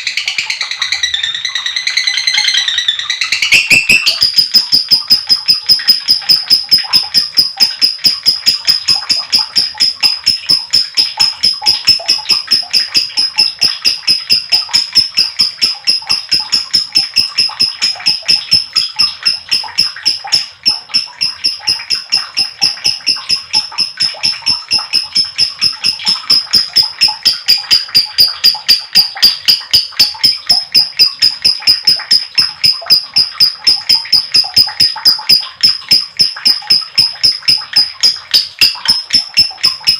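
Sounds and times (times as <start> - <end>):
lovebird rapid high chirps: 0.0 - 39.9.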